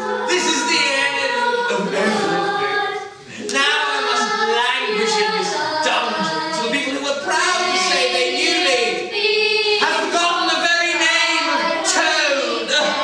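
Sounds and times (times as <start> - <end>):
choir singing unaccompanied: 0.0 - 13.0.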